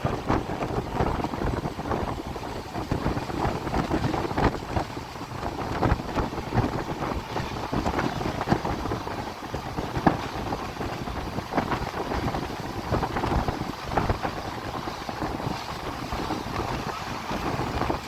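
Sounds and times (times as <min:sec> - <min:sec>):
train carriage rumble: 0:00.0 - 0:18.0
wind buffeting microphone: 0:00.0 - 0:18.0.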